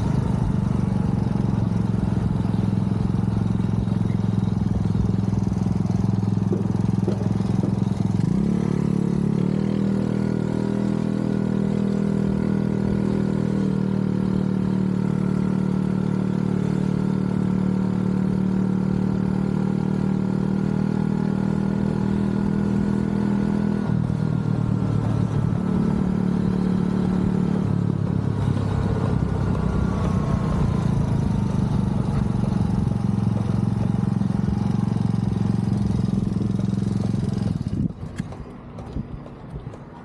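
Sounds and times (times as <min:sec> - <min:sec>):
small motorbike engine running: 0:00.0 - 0:40.0.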